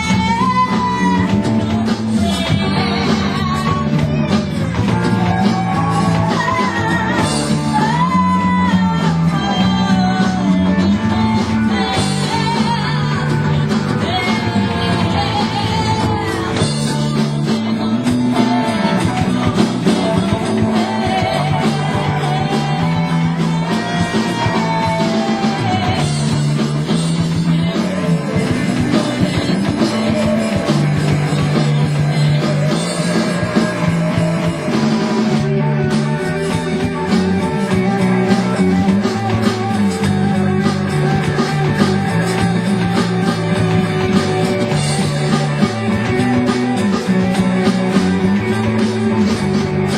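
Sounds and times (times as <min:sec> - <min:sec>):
bass line: 0:00.0 - 0:49.9
drums: 0:00.0 - 0:49.9
electric guitar: 0:00.0 - 0:49.9.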